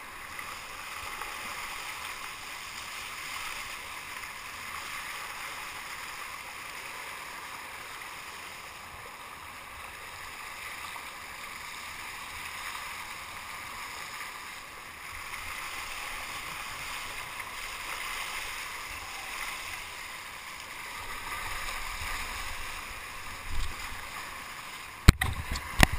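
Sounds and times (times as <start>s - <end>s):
water rushing along kayak hull: 0.0s - 25.9s.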